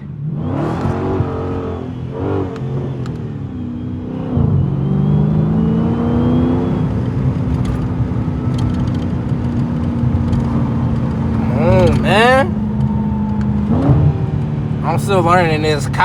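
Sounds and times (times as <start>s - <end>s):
car exhaust revving: 0.2s - 16.0s.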